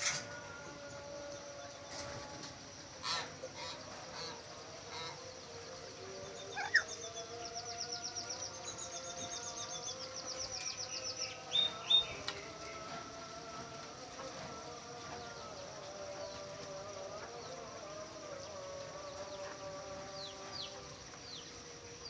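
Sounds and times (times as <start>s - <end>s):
caged birds calling: 0.0s - 22.0s.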